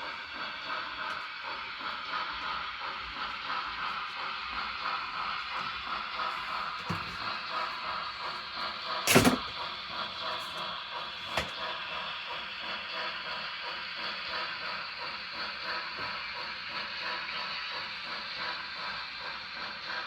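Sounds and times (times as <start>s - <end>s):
model train running: 0.0s - 20.0s.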